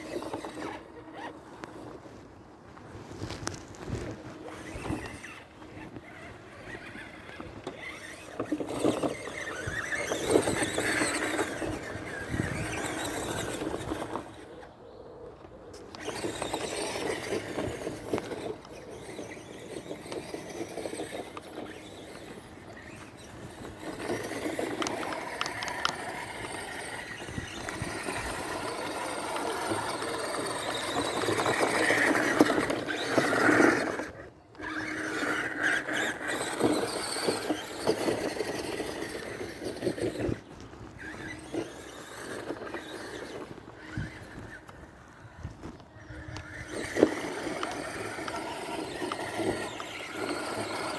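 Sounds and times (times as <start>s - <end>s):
toy car motor whining: 0.0s - 2.0s, 3.2s - 50.9s.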